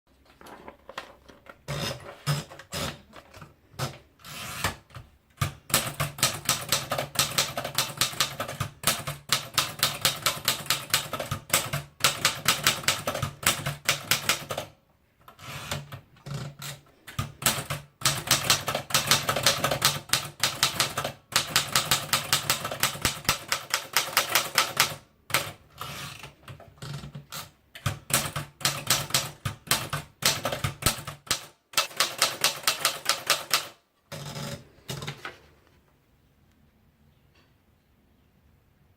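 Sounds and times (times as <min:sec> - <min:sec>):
typewriter keys clattering: 0:00.4 - 0:14.7, 0:15.3 - 0:35.2.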